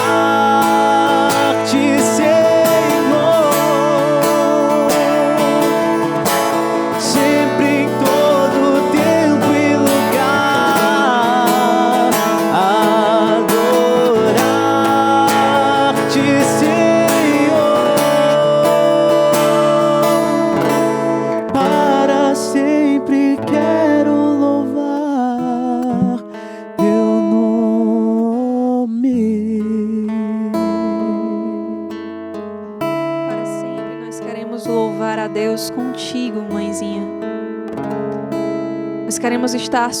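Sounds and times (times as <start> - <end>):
slow worship music: 0.0 - 39.1
acoustic guitar: 0.0 - 40.0.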